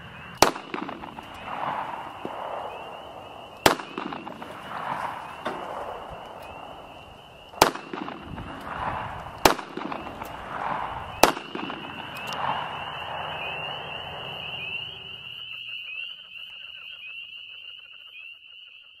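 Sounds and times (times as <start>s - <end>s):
echoing gunshots: 0.0s - 15.4s
chirping chorus of insects or frogs: 0.0s - 19.0s.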